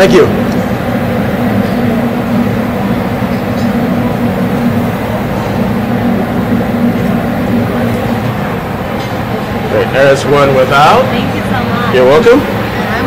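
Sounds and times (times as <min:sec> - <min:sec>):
kitchen ventilation rumble and hum: 0:00.0 - 0:13.0.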